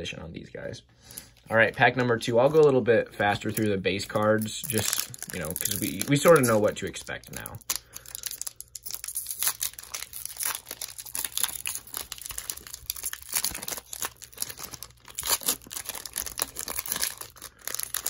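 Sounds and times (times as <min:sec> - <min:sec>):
foil wrapper tearing and crinkling: 0:03.3 - 0:18.0.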